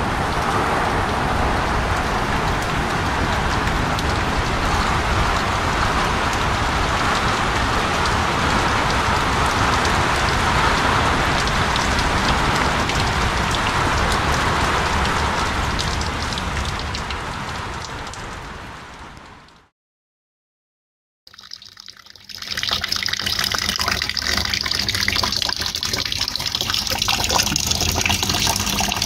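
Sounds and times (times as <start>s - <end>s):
rain falling steadily: 0.0s - 19.7s, 21.4s - 29.0s
raindrops ticking close by: 0.2s - 19.7s, 21.3s - 29.0s.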